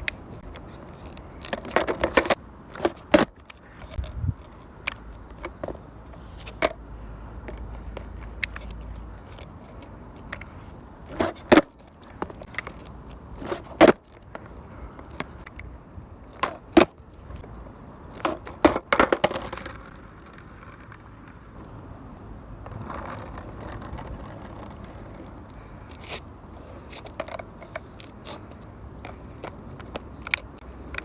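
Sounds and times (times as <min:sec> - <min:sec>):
skateboard clacking on pavement: 0:00.0 - 0:21.8, 0:22.6 - 0:31.0.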